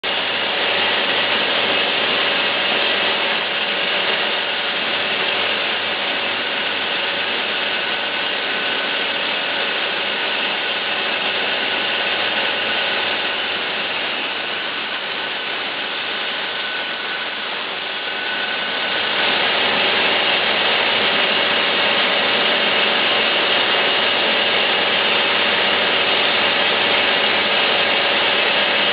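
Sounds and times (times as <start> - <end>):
bandsaw grinding through metal pipe: 0.2 - 28.9.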